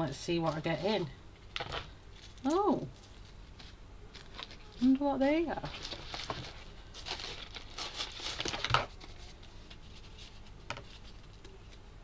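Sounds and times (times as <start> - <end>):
packaging rustling and crinkling: 0.4 - 11.8.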